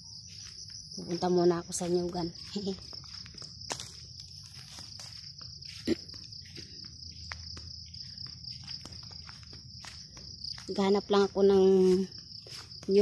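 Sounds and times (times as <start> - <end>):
footsteps through long grass: 0.0 - 13.0
high-pitched insect drone: 0.0 - 13.0.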